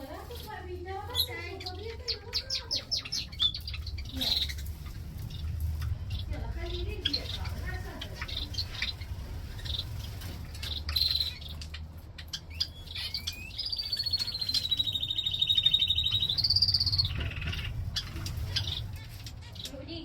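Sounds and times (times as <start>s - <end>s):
low steady rumble: 0.0s - 20.0s
small birds chirping: 0.0s - 20.0s
bird singing a rapid trill: 1.1s - 20.0s.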